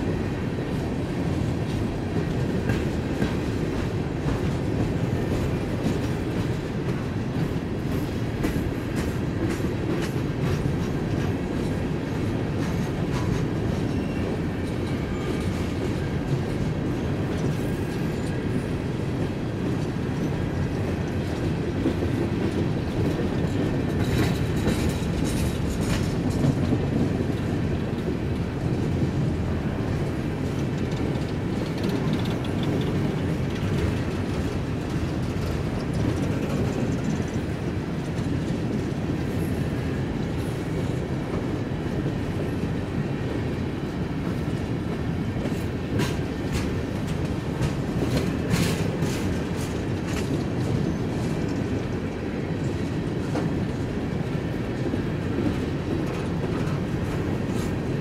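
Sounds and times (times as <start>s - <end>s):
train wheels clattering on rail: 0.0s - 58.0s.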